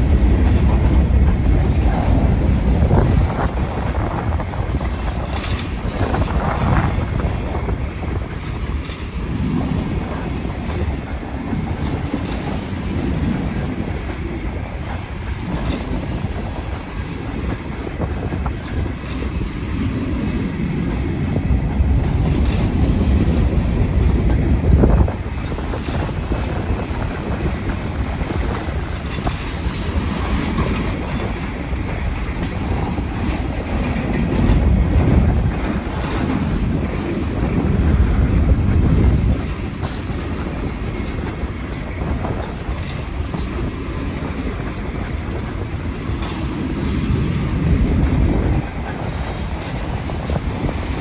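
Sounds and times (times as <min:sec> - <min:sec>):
train wheels rumbling on rails: 0:00.0 - 0:51.0
wheels clacking over rail joints: 0:00.0 - 0:51.0.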